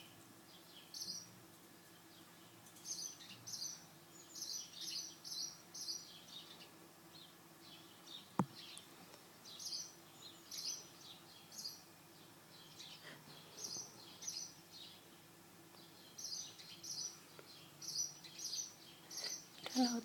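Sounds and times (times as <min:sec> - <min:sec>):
sparrows chirping: 0:00.0 - 0:20.0.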